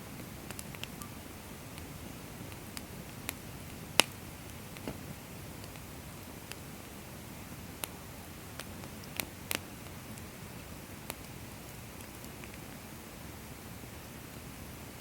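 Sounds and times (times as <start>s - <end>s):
wood fire crackling: 0.0s - 15.0s
firewood popping: 0.1s - 12.7s.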